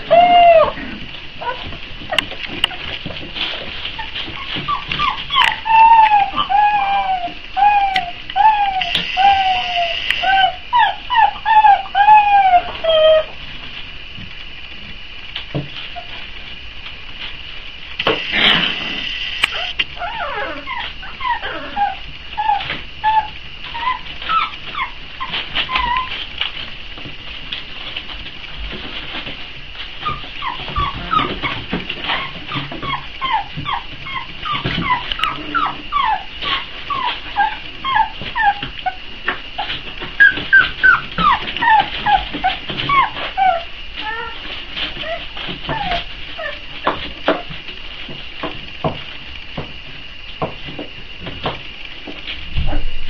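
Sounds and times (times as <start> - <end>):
puppies whimpering and whining: 0.0 - 13.6, 15.8 - 16.2, 19.3 - 27.1, 28.6 - 48.6, 50.7 - 53.0.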